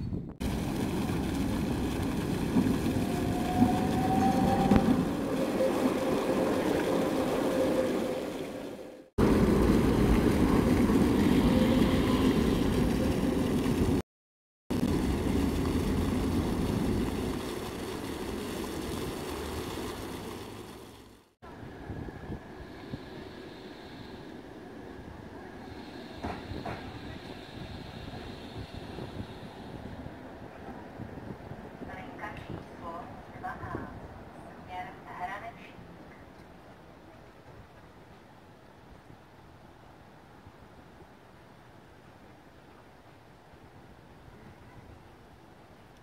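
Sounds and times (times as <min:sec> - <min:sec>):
street traffic rumble: 0:00.1 - 0:14.0, 0:14.7 - 0:38.4
tram passing on rails: 0:00.4 - 0:14.0, 0:14.7 - 0:39.4.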